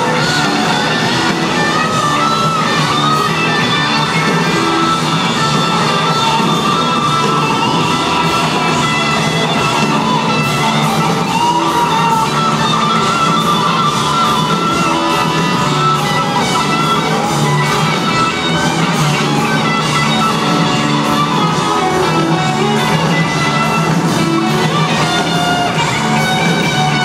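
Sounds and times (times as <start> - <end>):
live hard rock band: 0.0 - 27.0.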